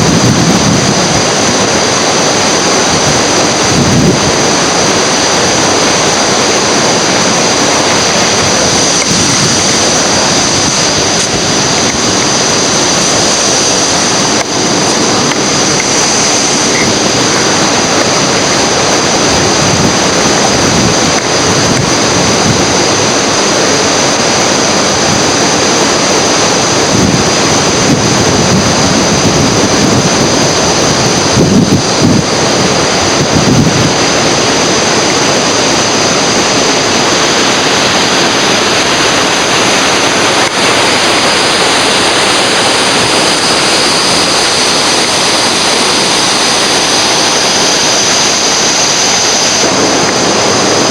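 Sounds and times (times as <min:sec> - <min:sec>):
whitewater rushing in rapids: 0:00.0 - 0:50.9
wind on microphone: 0:00.0 - 0:50.9.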